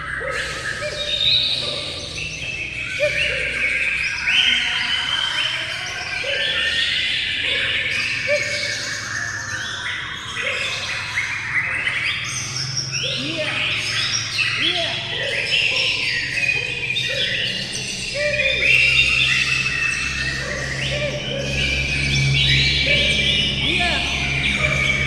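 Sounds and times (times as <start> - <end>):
songbirds chorus: 0.0 - 25.0.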